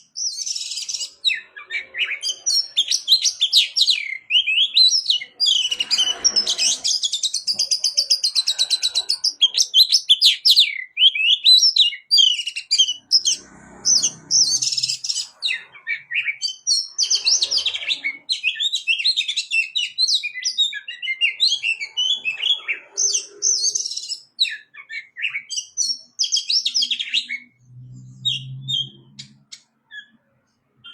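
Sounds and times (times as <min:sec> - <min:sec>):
songbird chirping song: 0:00.0 - 0:30.9.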